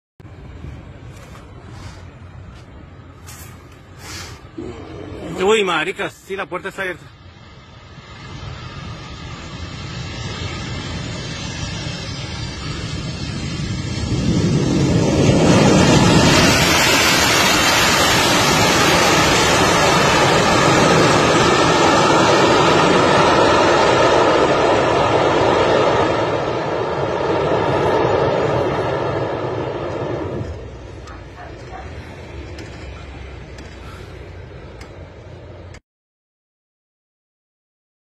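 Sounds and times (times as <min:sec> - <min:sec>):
jet engines rushing: 0:00.2 - 0:35.8.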